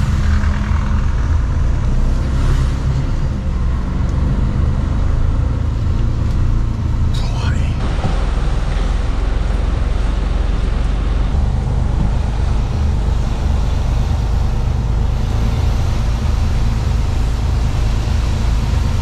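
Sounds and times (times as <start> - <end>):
road noise: 0.0 - 19.0
truck engine drone: 0.0 - 19.0.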